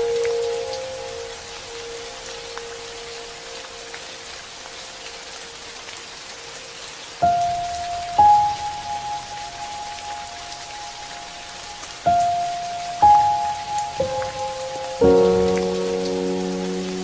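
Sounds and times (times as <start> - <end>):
soft sparse background music: 0.0 - 17.0
steady rain-like hiss: 0.0 - 17.0.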